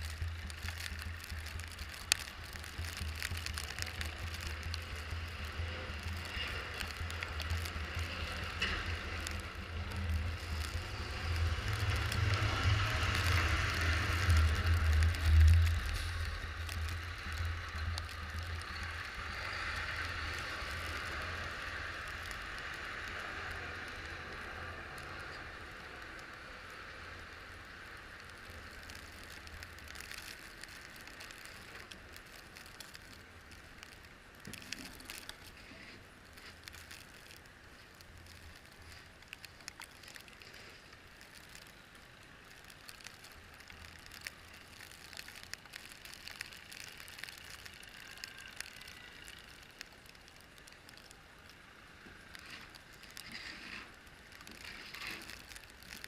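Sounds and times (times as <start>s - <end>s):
small crackles and clicks: 0.0s - 56.0s
vehicle road noise on snow: 0.0s - 56.0s.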